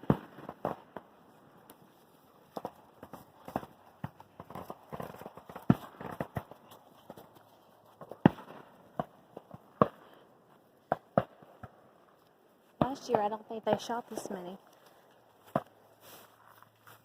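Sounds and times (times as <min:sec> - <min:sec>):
distant fireworks popping and banging: 0:00.0 - 0:12.0, 0:12.7 - 0:14.6.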